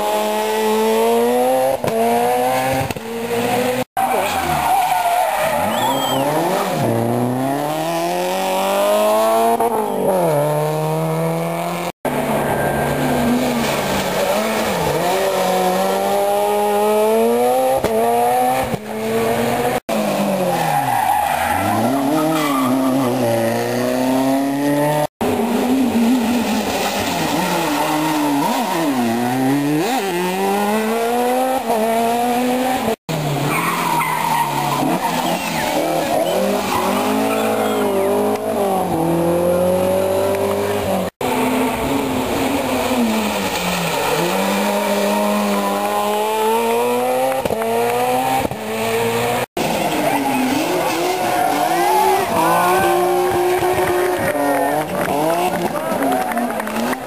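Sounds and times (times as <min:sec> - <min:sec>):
rally car engines revving: 0:00.0 - 0:57.0
tyres skidding: 0:00.0 - 0:57.0.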